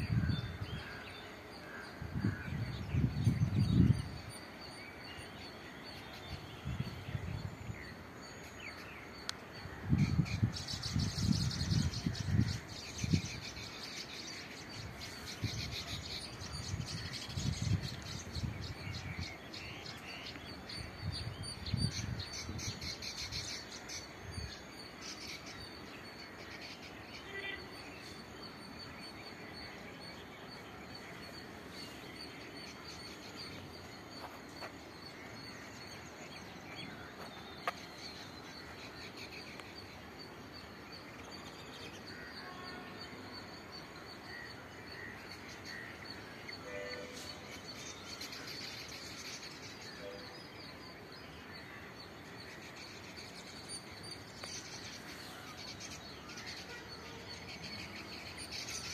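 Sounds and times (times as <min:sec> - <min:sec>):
birds chattering in high chirps: 0:00.0 - 0:58.9.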